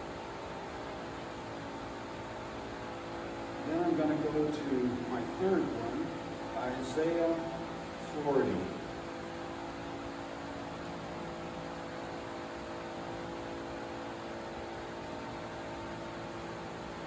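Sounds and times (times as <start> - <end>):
electric fan whirring: 0.0 - 17.0.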